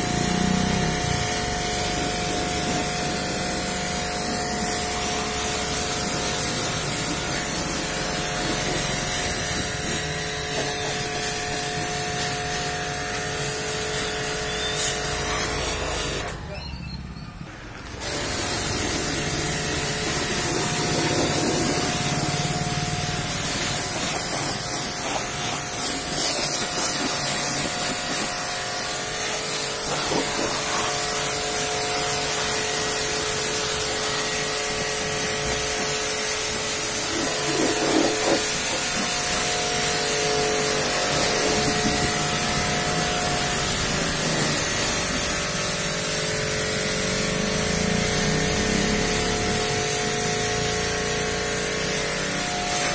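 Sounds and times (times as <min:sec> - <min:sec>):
pump motor humming: 0:00.0 - 0:16.5, 0:17.8 - 0:52.9
pressure washer spraying: 0:00.0 - 0:17.2, 0:17.8 - 0:52.9.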